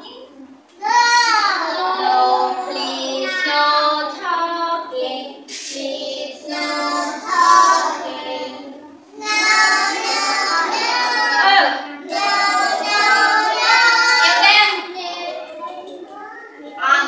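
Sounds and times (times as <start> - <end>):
children singing: 0.8 - 16.3.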